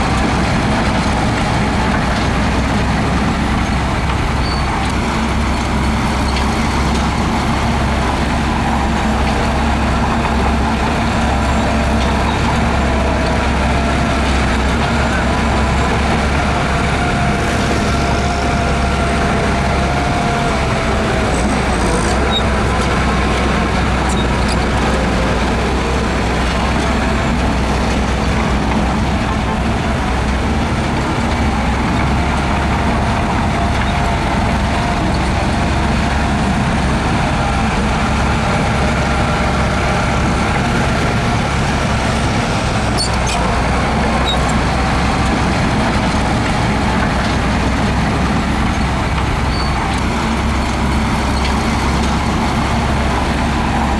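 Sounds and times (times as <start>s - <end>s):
heavy machinery engine drone: 0.0s - 53.9s.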